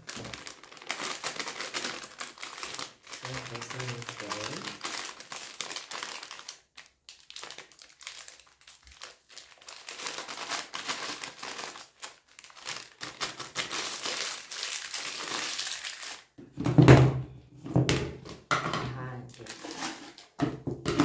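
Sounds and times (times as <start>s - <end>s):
plastic packet crinkling: 0.0s - 16.4s, 19.0s - 20.4s.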